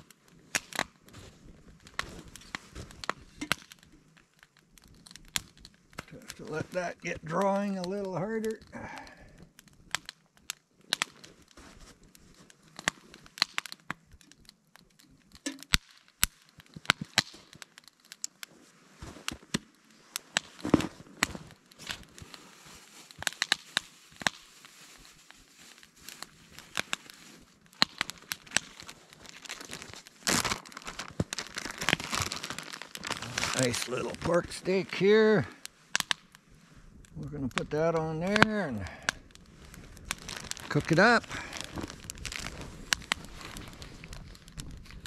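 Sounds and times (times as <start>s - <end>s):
fire popping and snapping: 0.0s - 45.0s
wood fire crackling: 0.0s - 45.0s.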